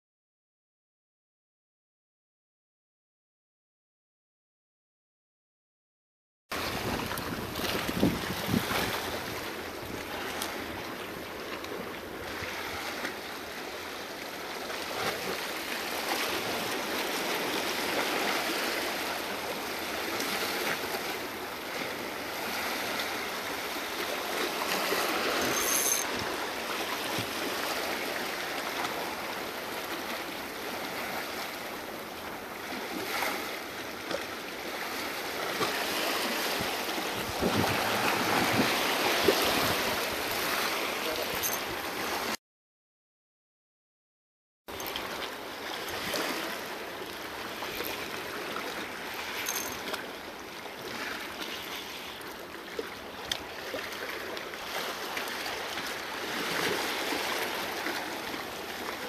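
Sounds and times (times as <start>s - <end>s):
small waves splashing over rocks: 6.6s - 42.4s, 44.8s - 59.0s.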